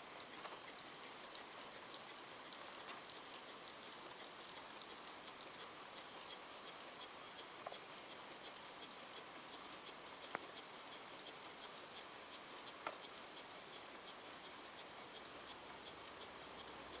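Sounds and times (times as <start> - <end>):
faint air hiss: 0.0 - 17.0.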